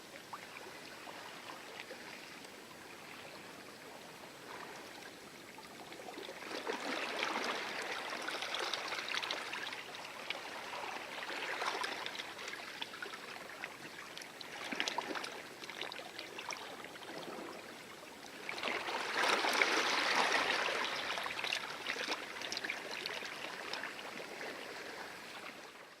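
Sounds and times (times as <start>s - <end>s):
small waves lapping on shore: 0.1s - 26.0s.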